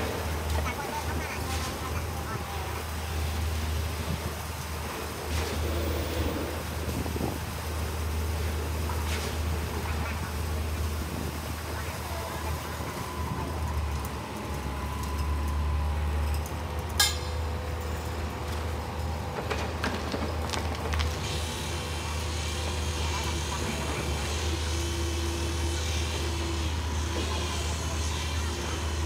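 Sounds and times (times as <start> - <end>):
low engine hum: 0.0 - 29.0.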